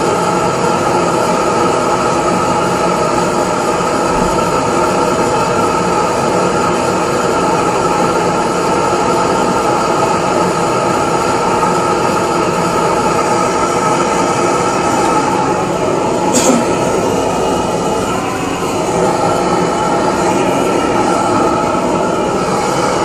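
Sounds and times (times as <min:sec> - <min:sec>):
blowtorch flames roaring: 0:00.0 - 0:23.0.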